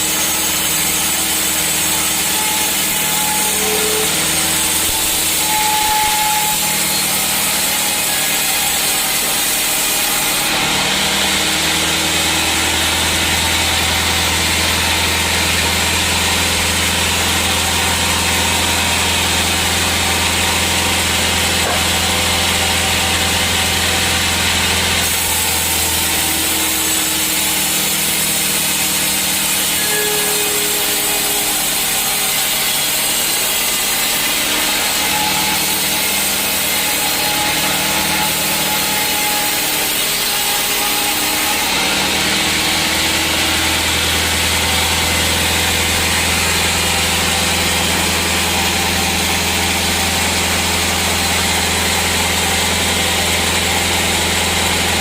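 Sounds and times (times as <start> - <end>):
saw cutting wood: 0.0 - 55.0.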